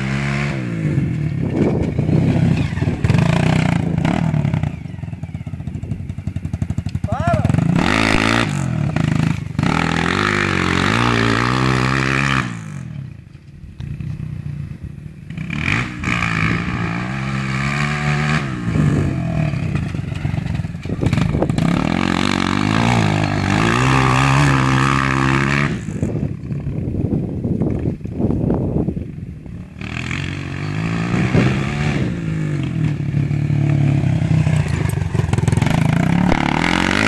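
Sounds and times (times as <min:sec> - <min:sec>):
dirt bike engine revving: 0:00.0 - 0:13.1, 0:15.3 - 0:26.3, 0:29.7 - 0:37.0.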